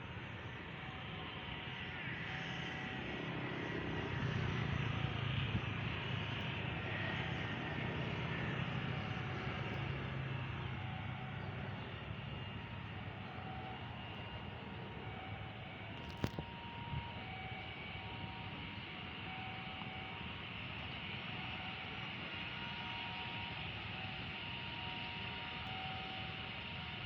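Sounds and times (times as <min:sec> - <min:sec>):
aircraft engines running: 0:00.0 - 0:27.0.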